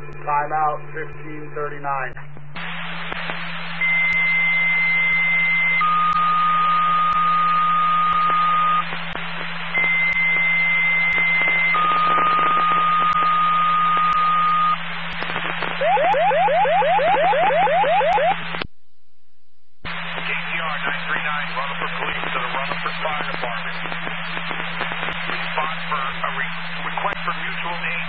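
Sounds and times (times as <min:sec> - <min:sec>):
radio hiss: 0:00.0 - 0:18.7, 0:19.8 - 0:28.0
steady hum: 0:00.0 - 0:28.0.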